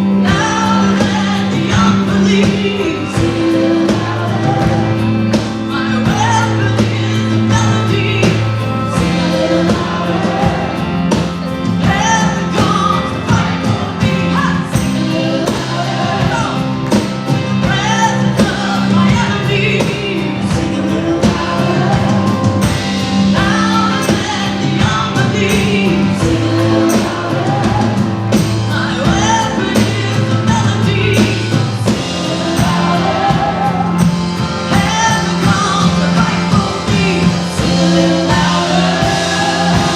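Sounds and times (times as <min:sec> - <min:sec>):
bass notes: 0:00.0 - 0:39.9
electric guitar: 0:00.0 - 0:39.9
live rock band playing: 0:00.0 - 0:39.9
person singing: 0:00.0 - 0:39.9.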